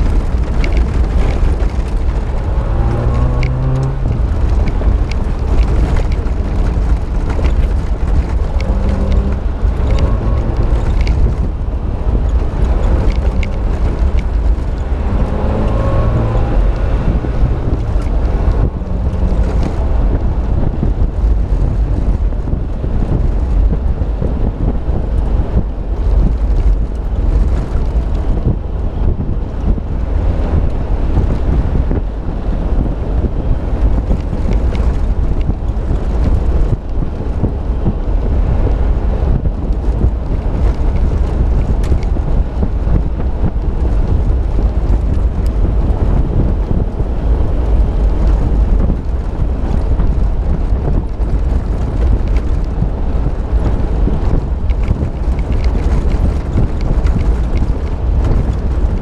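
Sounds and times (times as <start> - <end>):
vehicle road noise: 0.0 - 59.0
wind rumble buffeting microphone: 0.0 - 59.0.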